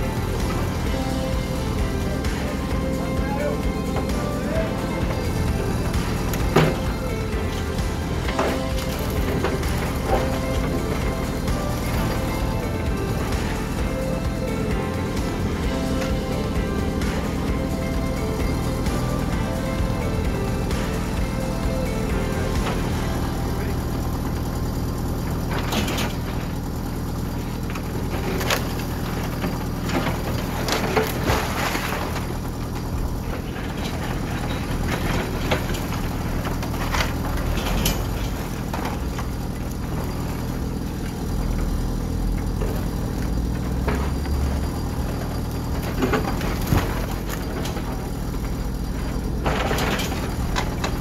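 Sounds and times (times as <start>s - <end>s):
diesel engine running: 0.0s - 51.0s
rubble clattering and scraping: 0.0s - 51.0s.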